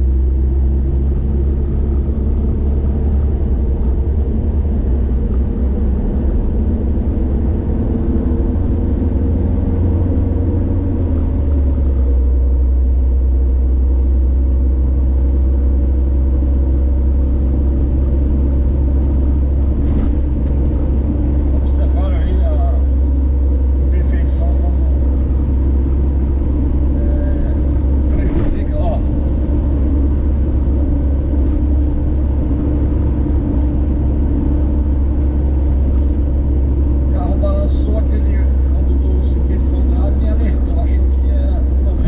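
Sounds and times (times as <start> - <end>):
car driving on highway: 0.0 - 42.0.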